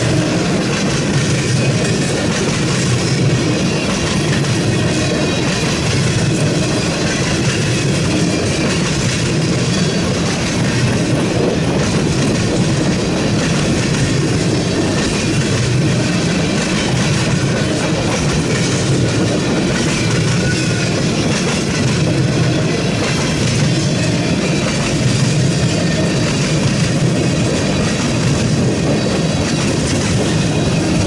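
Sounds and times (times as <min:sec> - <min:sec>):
steel wheels running on rails: 0:00.0 - 0:31.0.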